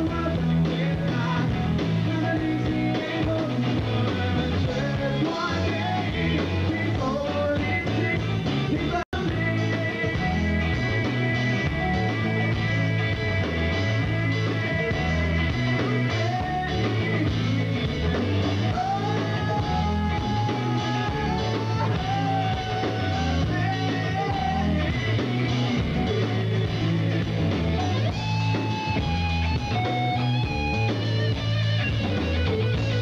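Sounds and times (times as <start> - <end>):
live rock band playing: 0.0 - 33.0
repeating bass pattern: 0.0 - 33.0.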